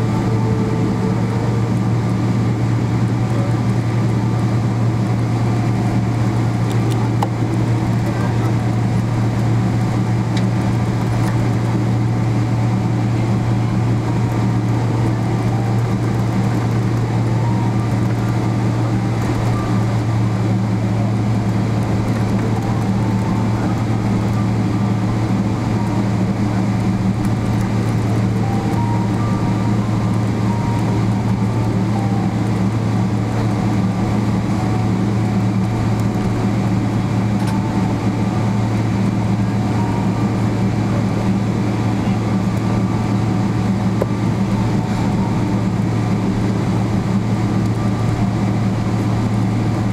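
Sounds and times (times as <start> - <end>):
jet engines humming in cabin: 0.0 - 49.9.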